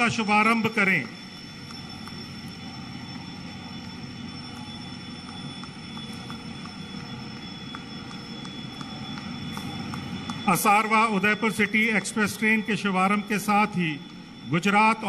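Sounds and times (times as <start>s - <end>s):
diesel locomotive engine drone: 0.0s - 15.0s
thin steady whine: 0.0s - 15.0s.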